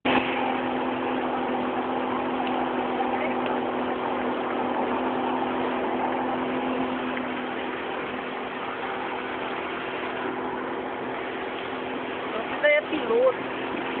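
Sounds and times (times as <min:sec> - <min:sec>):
motorboat engine humming: 0:00.0 - 0:14.0.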